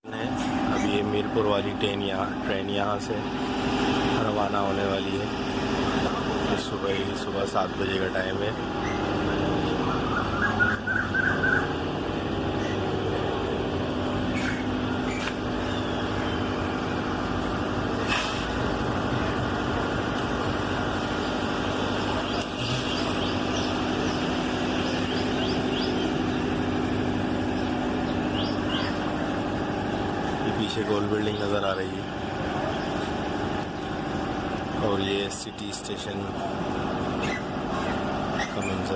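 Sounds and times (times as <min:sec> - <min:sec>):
diesel locomotive idling: 0:00.0 - 0:38.9.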